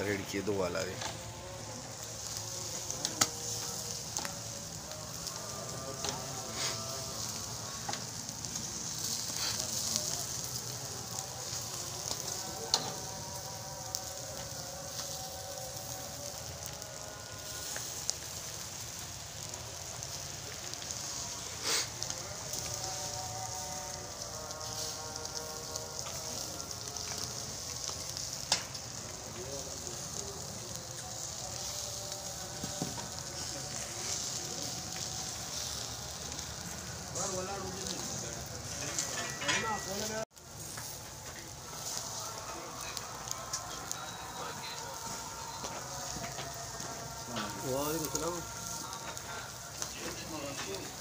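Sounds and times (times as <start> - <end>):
meat sizzling over charcoal grill: 0.0 - 51.0.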